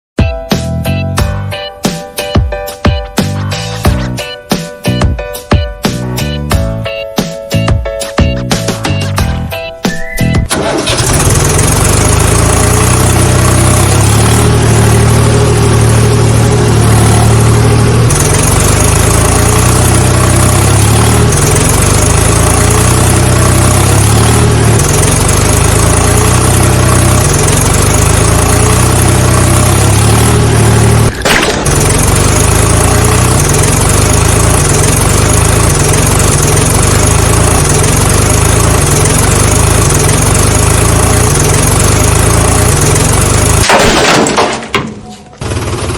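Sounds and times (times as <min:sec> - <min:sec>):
tractor engine running: 0:07.5 - 0:45.9.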